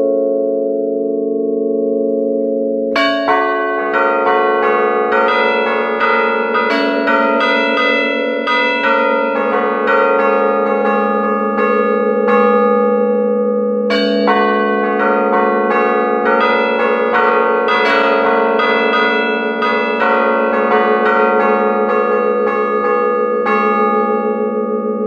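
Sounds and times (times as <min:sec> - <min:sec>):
church bells playing a tune: 0:00.0 - 0:25.0.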